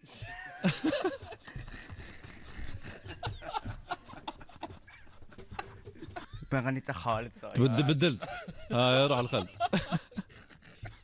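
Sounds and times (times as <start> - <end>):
quiet laughter and snickering: 0.1 - 6.8, 7.4 - 11.0.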